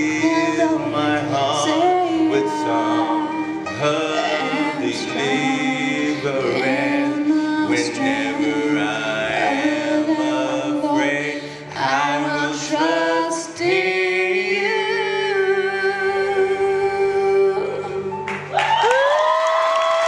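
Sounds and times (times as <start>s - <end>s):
girl and man singing duet: 0.0s - 18.2s.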